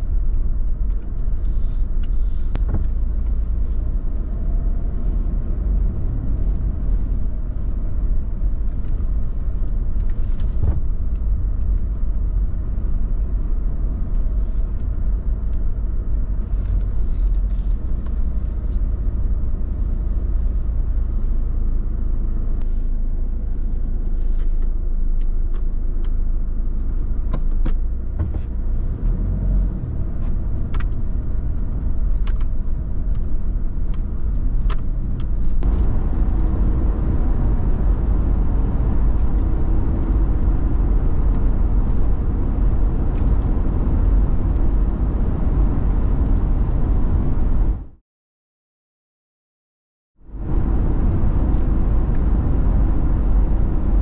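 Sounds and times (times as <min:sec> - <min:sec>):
car engine and tyres rumbling: 0:00.0 - 0:48.0, 0:50.2 - 0:54.0.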